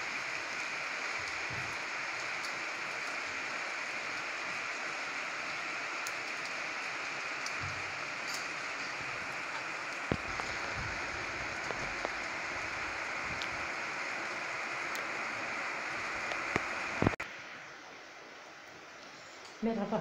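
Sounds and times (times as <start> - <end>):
rain falling on roofs: 0.0 - 20.0.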